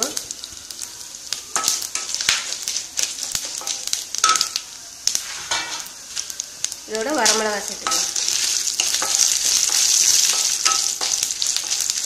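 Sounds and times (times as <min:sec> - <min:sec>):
seeds sizzling in oil: 0:00.0 - 0:12.0.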